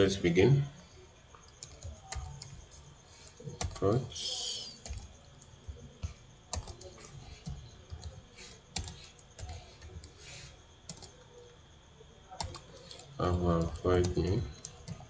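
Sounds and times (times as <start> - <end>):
computer keyboard typing: 1.4 - 11.6, 12.3 - 15.0.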